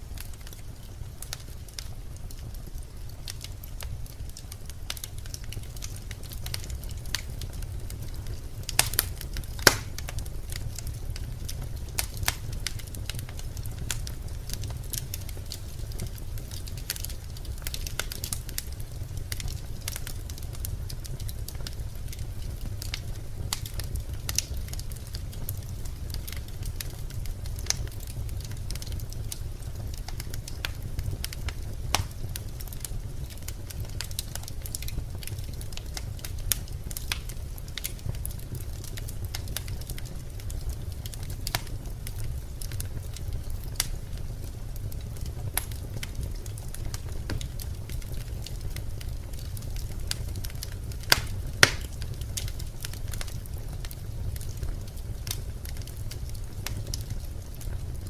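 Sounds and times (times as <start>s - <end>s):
logs crackling in a fireplace: 0.0s - 58.0s
low rumble of fire: 0.0s - 58.0s
sharp pops of fire: 3.3s - 57.8s.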